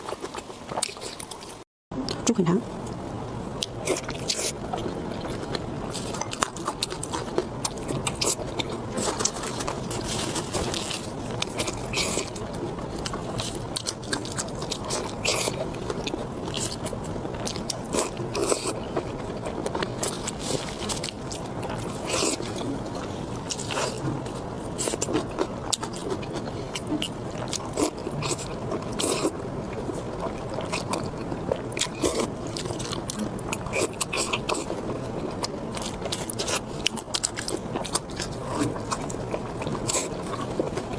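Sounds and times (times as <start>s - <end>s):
person chewing and biting food: 0.0s - 2.2s, 3.6s - 40.9s.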